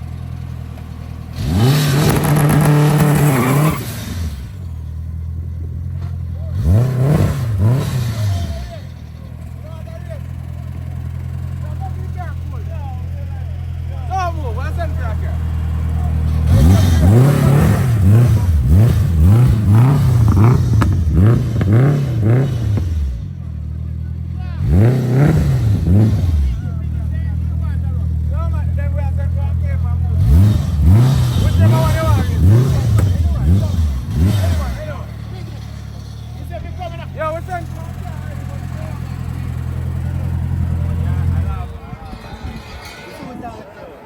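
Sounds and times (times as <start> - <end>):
car engine revving: 0.0 - 43.8.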